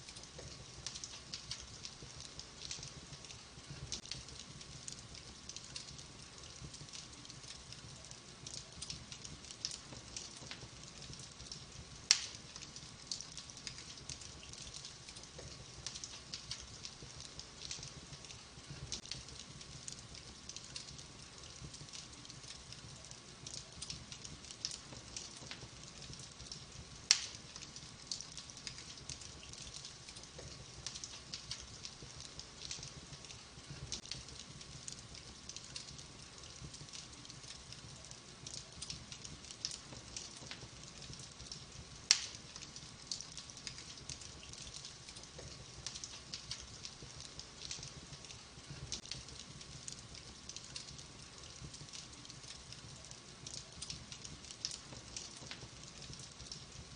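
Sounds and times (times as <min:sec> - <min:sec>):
fire pops: 0:00.0 - 0:56.8
wood fire crackling: 0:00.0 - 0:56.9.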